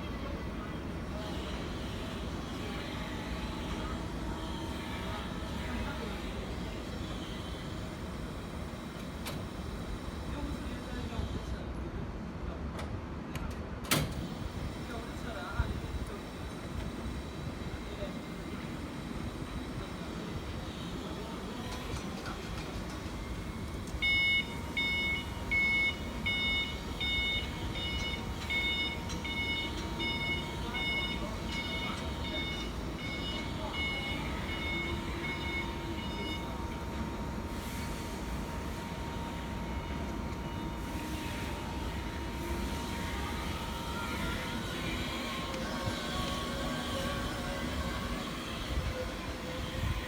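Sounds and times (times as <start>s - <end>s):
electric forklift running: 0.0s - 11.6s, 13.9s - 50.0s.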